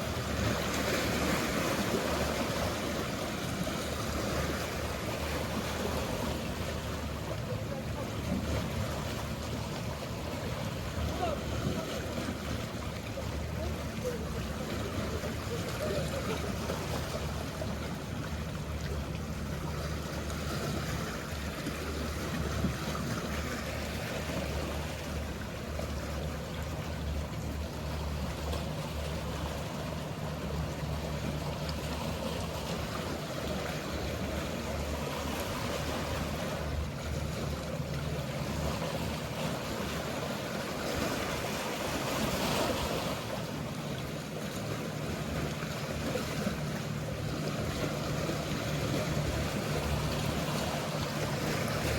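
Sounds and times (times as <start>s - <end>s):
boat engine humming: 0.0s - 51.9s
sea waves washing: 0.0s - 51.9s.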